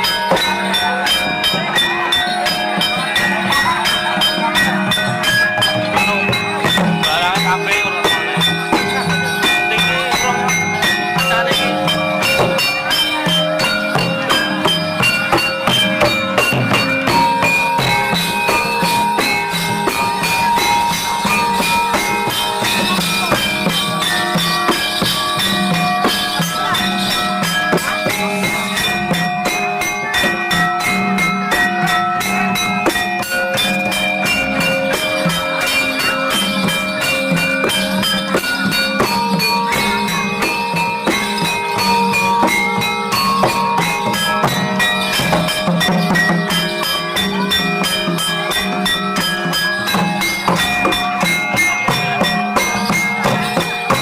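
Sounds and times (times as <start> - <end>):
fast steady drum beat: 0.0 - 54.0
jingling percussion: 0.0 - 54.0
ringing struck-metal tones: 0.0 - 54.0.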